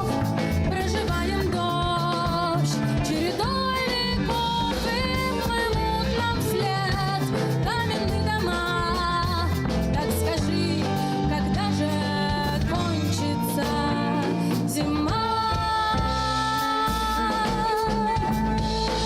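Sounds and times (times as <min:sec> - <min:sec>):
blues band song: 0:00.0 - 0:19.0.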